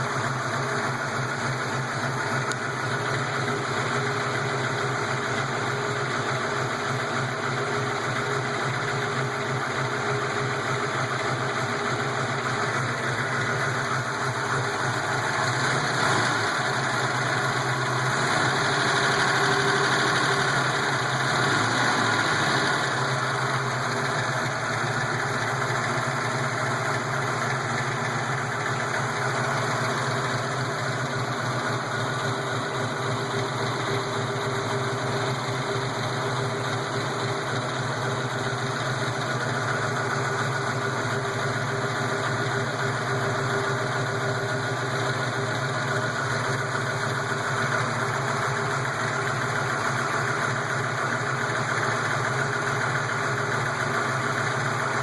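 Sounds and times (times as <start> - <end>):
engine idling with lifter ticking: 0.0 - 55.0.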